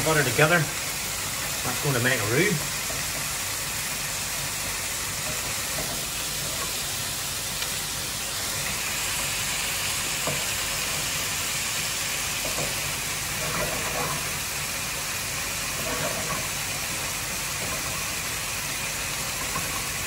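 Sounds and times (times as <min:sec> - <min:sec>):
butter and flour sizzling in pan: 0:00.0 - 0:20.0.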